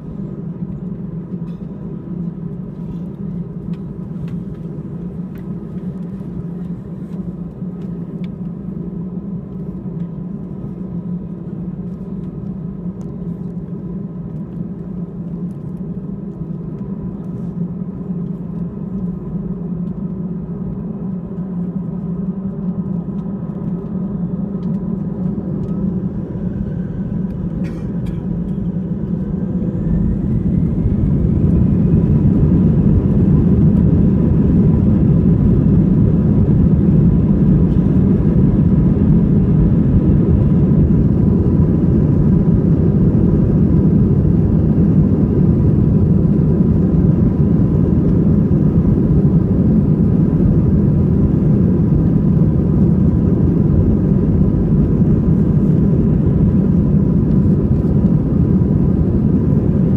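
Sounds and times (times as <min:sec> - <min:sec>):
engine whine climbing in pitch: 0:00.0 - 0:59.9
jet engines humming in cabin: 0:00.0 - 0:59.9.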